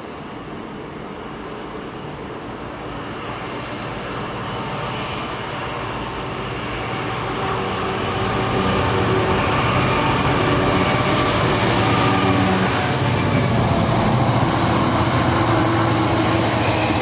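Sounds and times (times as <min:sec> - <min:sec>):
train approaching: 0:00.0 - 0:17.0.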